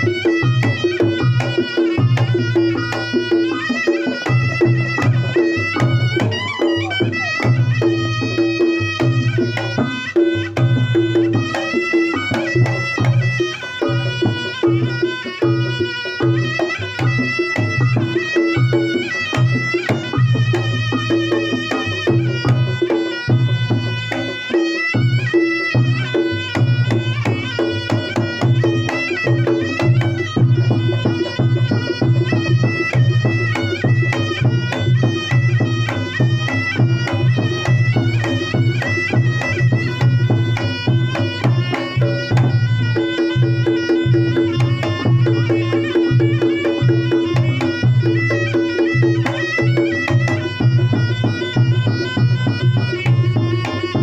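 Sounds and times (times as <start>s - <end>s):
hand drums: 0.0s - 54.0s
reed shawm melody: 0.0s - 54.0s.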